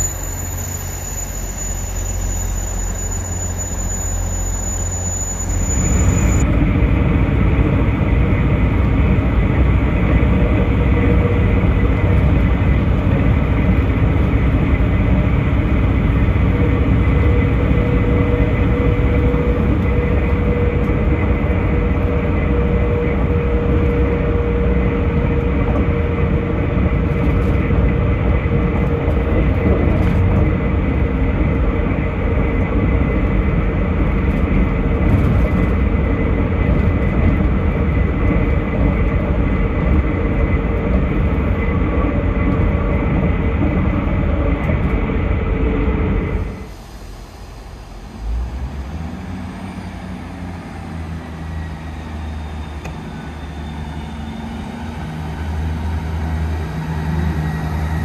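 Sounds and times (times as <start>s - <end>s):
train engine and wheels rumbling: 0.0s - 58.0s
train hum: 0.0s - 58.0s.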